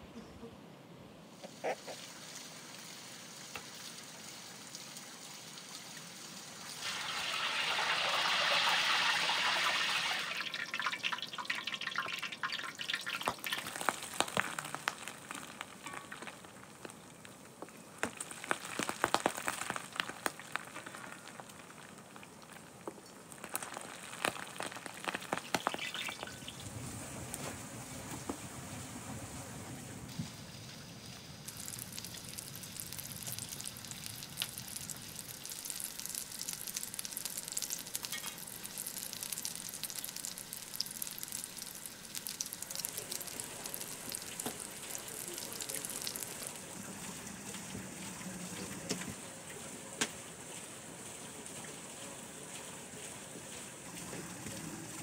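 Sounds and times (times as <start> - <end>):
water boiling and crackling: 1.3 - 55.0.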